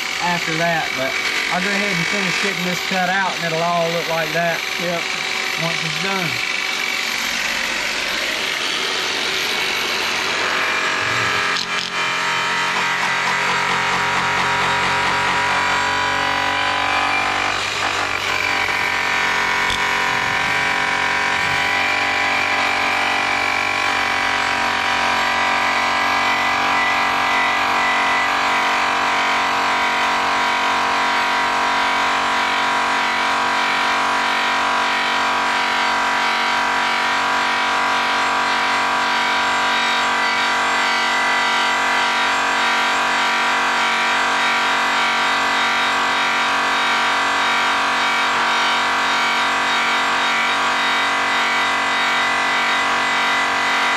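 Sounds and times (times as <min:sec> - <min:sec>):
rotary polisher whining on metal: 0:00.0 - 0:53.9.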